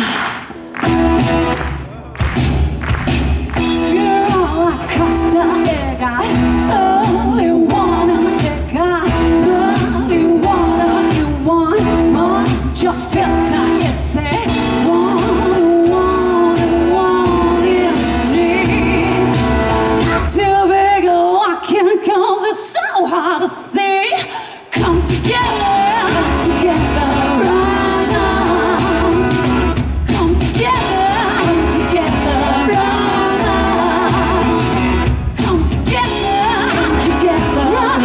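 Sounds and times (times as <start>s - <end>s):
electric guitar: 0.0s - 21.0s, 24.8s - 38.0s
acoustic guitar: 0.0s - 21.1s, 24.8s - 38.0s
bass: 0.0s - 21.3s, 24.8s - 38.0s
person singing: 3.8s - 22.4s, 24.7s - 38.0s.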